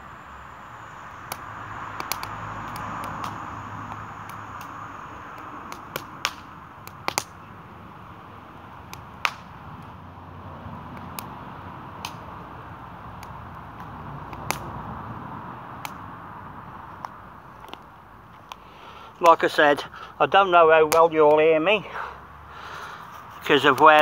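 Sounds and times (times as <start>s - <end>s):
campfire crackling and popping: 0.6s - 24.0s.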